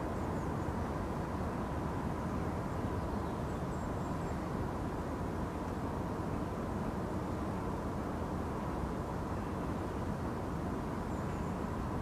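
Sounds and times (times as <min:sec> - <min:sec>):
faint constant hum: 0:00.0 - 0:12.0.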